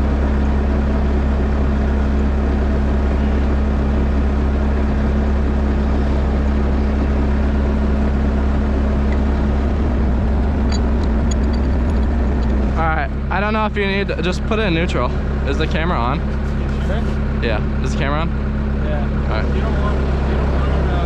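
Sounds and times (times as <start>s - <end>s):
vehicle engine running steadily: 0.0s - 21.0s.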